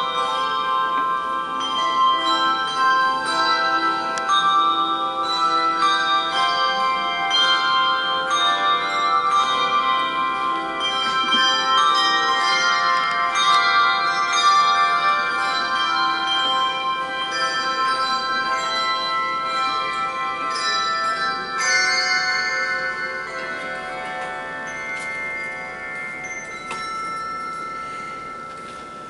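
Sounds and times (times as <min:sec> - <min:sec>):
handbell choir playing a hymn: 0:00.0 - 0:29.0.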